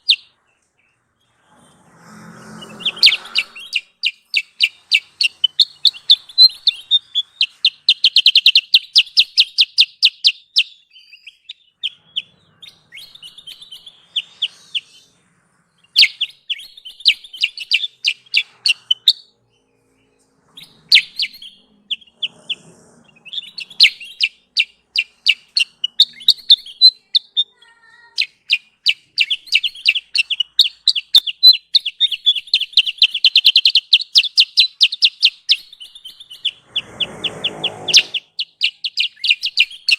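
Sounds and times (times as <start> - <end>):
bird high chattering calls: 2.0 - 15.2, 15.8 - 39.9.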